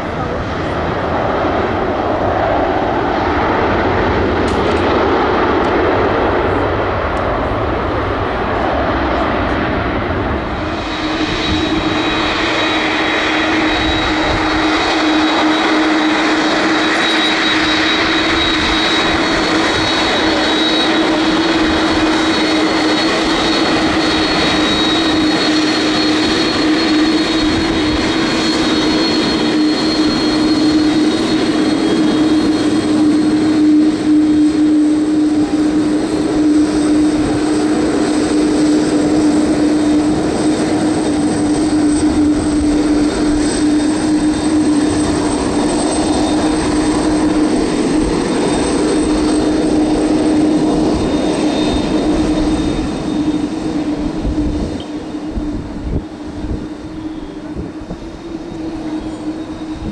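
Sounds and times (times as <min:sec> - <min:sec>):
high jet engine whine: 0:00.0 - 0:59.9
jet engines drone and rush: 0:00.0 - 0:59.9.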